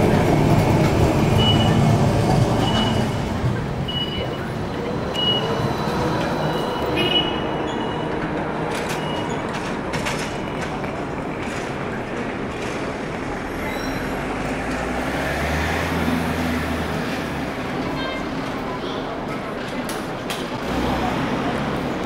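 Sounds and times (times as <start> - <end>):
heavy vehicle rumble: 0.0 - 22.0
trolleybus passing: 0.0 - 22.0.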